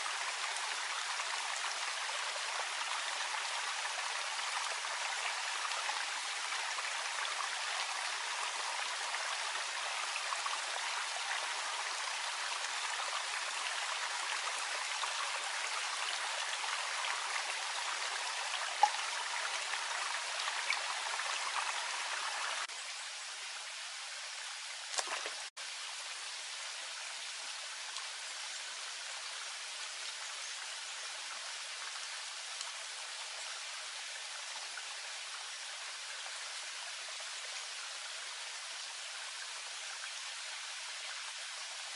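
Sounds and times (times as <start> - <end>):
stream water trickling: 0.0 - 41.9.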